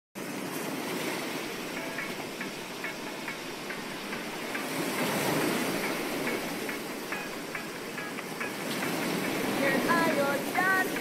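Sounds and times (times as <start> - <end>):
surf washing on shore: 0.2 - 11.0.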